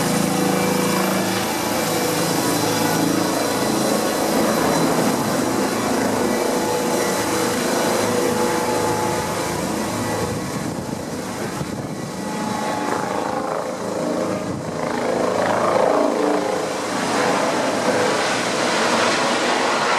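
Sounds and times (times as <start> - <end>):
helicopter running with whine: 0.0 - 19.9.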